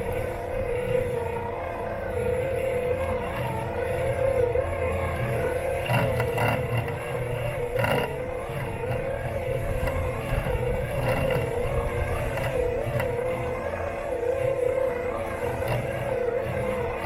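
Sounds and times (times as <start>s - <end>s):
robot lawn mower motor whine: 0.0s - 17.0s.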